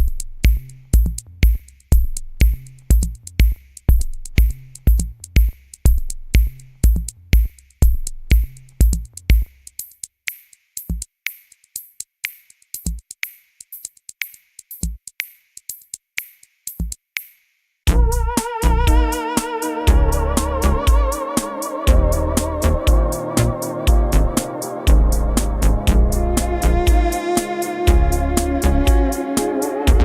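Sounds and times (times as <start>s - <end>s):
drum machine beat: 0.0s - 30.0s.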